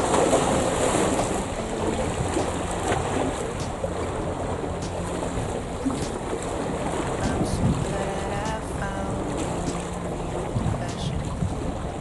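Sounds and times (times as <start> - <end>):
waves washing against rocks: 0.0 - 12.0
wind buffeting microphone: 0.0 - 12.0.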